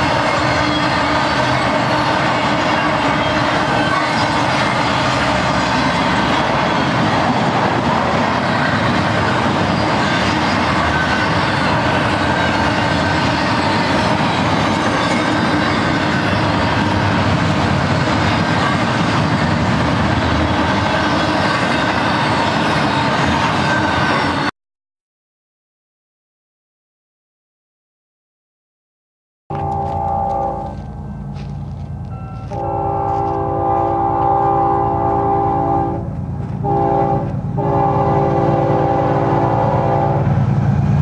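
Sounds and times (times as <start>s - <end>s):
freight train wheels on rails: 0.0s - 24.5s, 29.5s - 41.0s.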